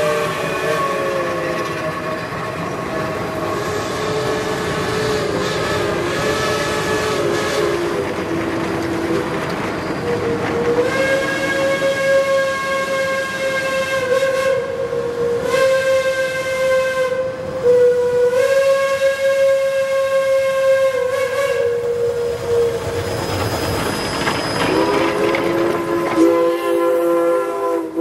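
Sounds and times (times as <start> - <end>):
steam locomotive whistle: 0.0 - 8.2, 9.9 - 23.3, 24.0 - 28.0
steam hiss and exhaust: 0.0 - 28.0.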